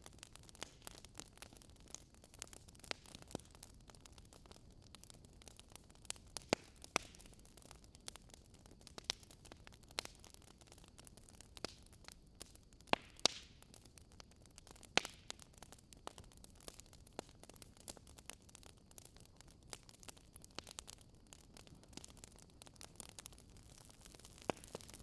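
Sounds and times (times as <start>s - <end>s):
bonfire crackling: 0.0s - 25.0s.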